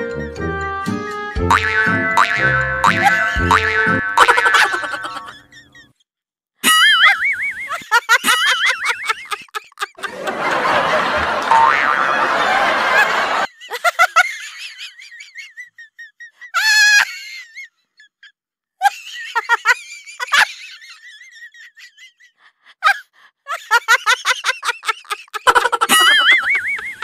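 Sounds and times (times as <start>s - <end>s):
laughter-like comic calls: 2.3s - 6.0s, 6.6s - 27.0s.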